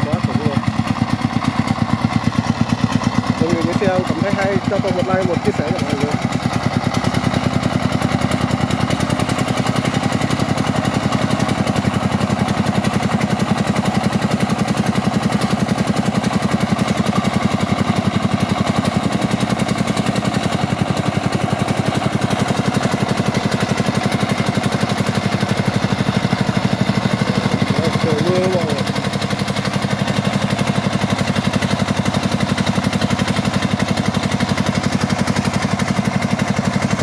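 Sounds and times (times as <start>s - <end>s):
diesel engine chugging: 0.0s - 37.0s.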